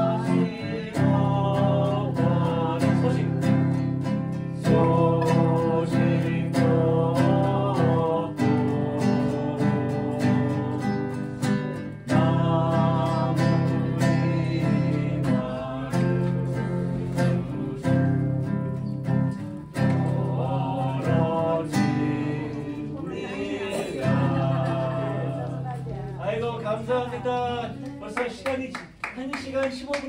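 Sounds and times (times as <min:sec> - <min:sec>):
acoustic guitar strumming: 0:00.0 - 0:27.8.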